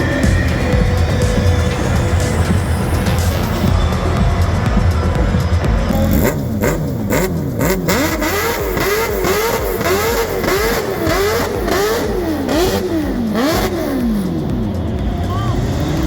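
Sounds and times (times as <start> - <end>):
engine revving in blips: 0.0 - 16.0.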